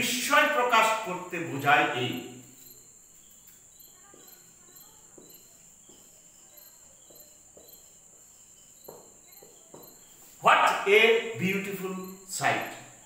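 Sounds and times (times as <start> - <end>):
steady high chirping: 0.0 - 13.0.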